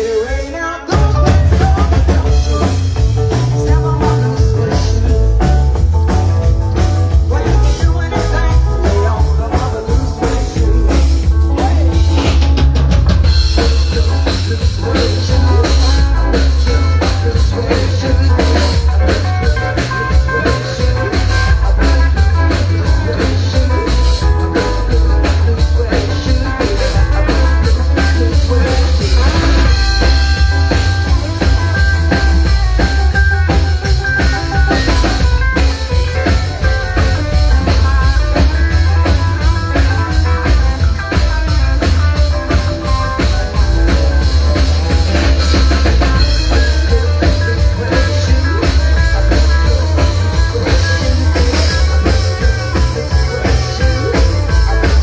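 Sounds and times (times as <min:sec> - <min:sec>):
drum kit steady beat: 0:00.0 - 0:55.0
live band music: 0:00.0 - 0:55.0.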